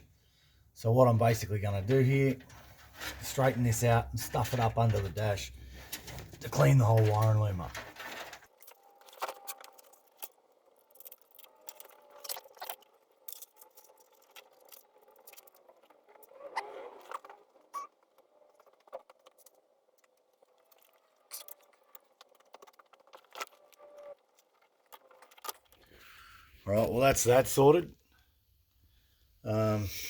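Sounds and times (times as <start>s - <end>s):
wiring clicks and rustles: 0.8s - 26.2s.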